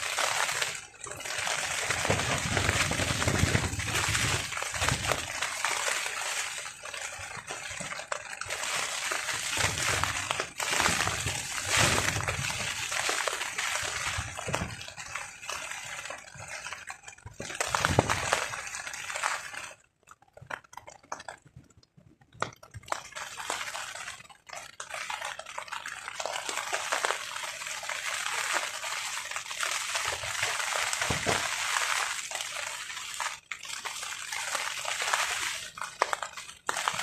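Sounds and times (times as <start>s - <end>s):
rain on a tarp: 0.0s - 37.0s.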